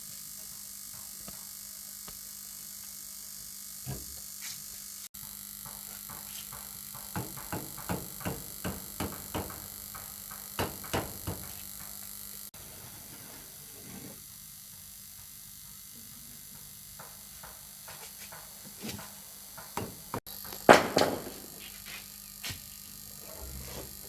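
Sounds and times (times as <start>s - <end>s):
electric hum: 0.0s - 17.9s, 18.5s - 24.0s.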